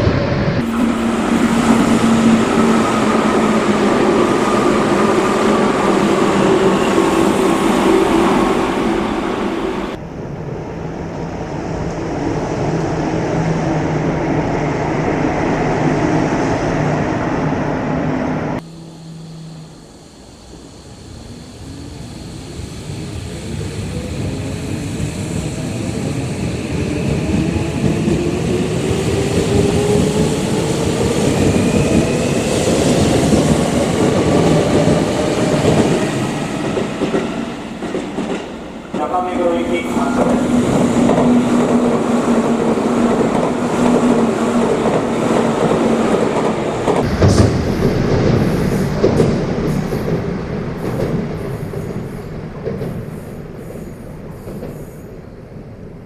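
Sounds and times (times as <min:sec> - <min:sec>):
train running steadily: 0:00.0 - 0:13.0, 0:18.1 - 0:56.0
train running past: 0:00.0 - 0:56.0.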